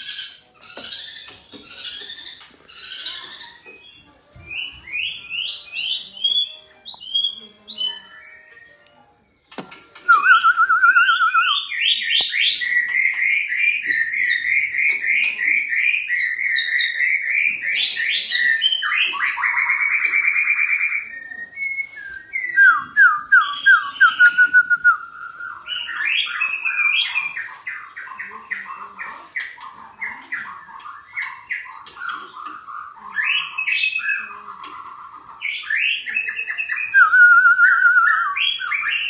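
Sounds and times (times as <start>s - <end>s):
bird singing varied song: 0.0s - 39.0s.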